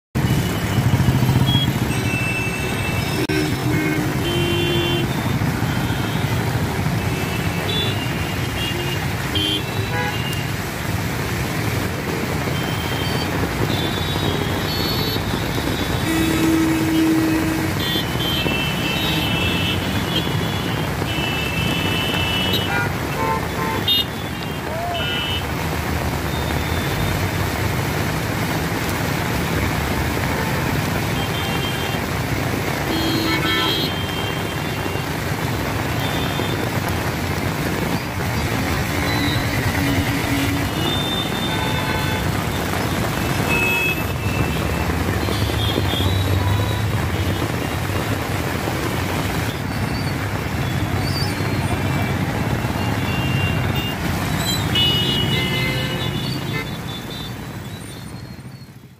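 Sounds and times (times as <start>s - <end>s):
road traffic passing: 0.1s - 58.9s
heavy rain hissing: 0.3s - 58.5s.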